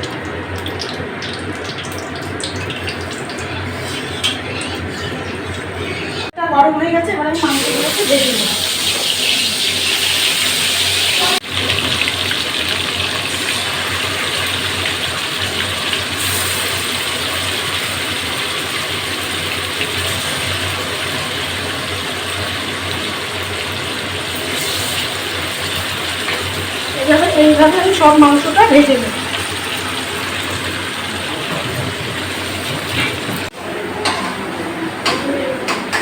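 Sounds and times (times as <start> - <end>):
chicken frying in hot oil: 0.0 - 6.3, 7.4 - 34.2.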